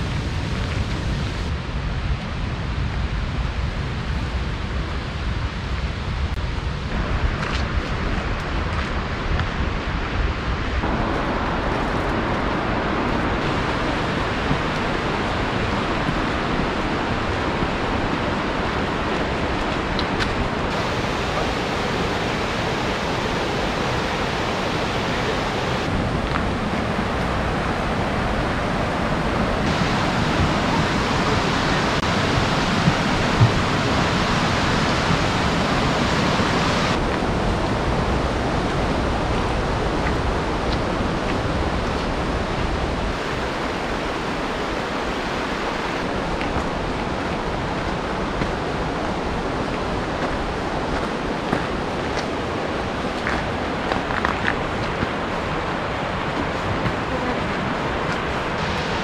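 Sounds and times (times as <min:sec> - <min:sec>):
waterfall roaring: 0:00.0 - 0:01.6, 0:04.1 - 0:59.0.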